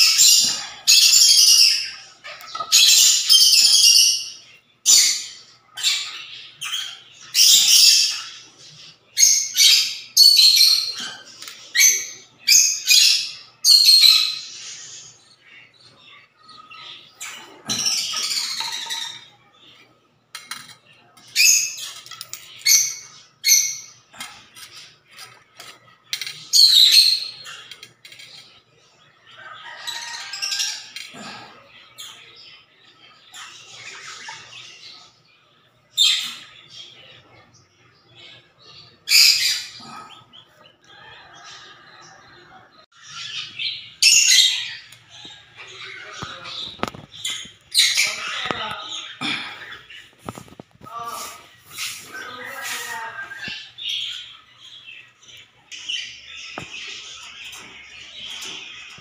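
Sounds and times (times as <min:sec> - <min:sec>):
bird chirping and squawking: 0:00.0 - 0:59.0.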